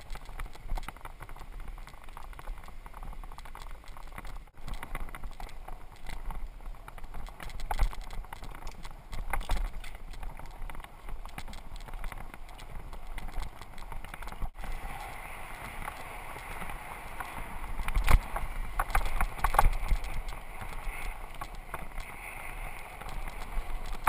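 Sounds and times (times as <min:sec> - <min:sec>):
bicycle frame rattling: 0:00.0 - 0:24.0
low wind rumble: 0:00.0 - 0:24.0.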